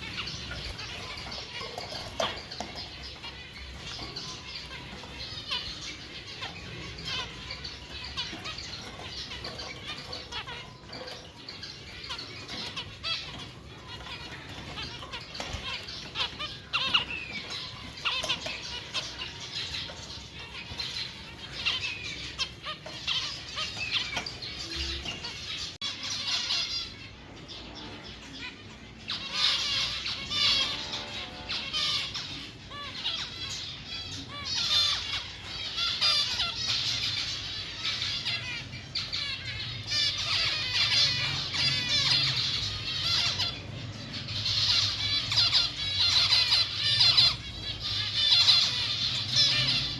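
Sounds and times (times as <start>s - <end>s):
caged birds chirping and squawking: 0.0s - 49.9s.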